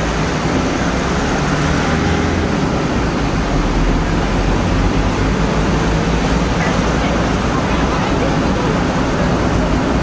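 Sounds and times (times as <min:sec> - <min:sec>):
seafront ambience: 0:00.0 - 0:10.0.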